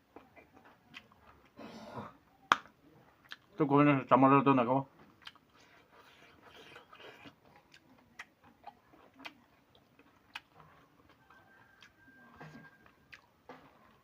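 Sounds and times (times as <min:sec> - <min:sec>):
soft chewing: 0:00.0 - 0:03.6, 0:05.0 - 0:14.0.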